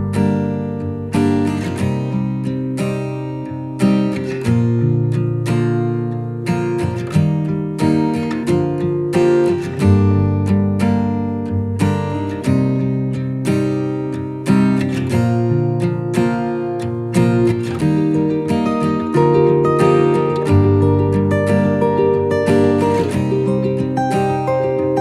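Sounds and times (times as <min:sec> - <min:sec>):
strummed acoustic guitar: 0:00.0 - 0:25.0.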